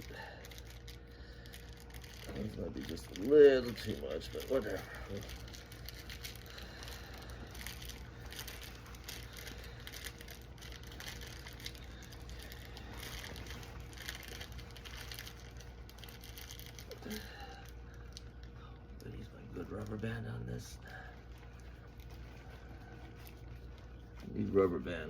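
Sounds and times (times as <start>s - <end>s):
faint low hum: 0.0s - 25.0s
plastic film crinkling: 0.0s - 25.0s.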